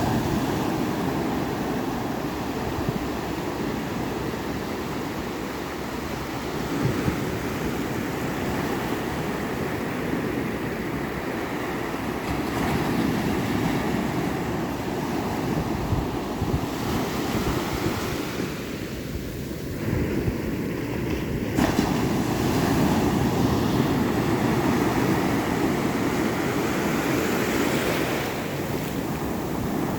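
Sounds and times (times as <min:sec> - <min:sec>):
ocean waves breaking: 0:00.0 - 0:29.9.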